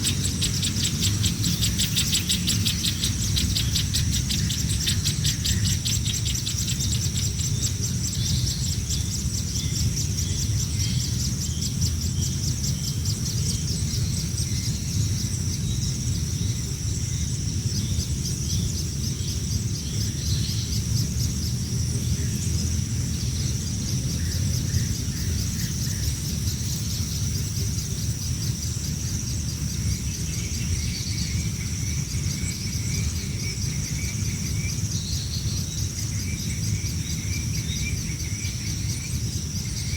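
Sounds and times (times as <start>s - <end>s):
birds chirping: 0.0s - 39.9s
insect trill: 0.0s - 39.9s
low steady rumble: 0.0s - 39.9s.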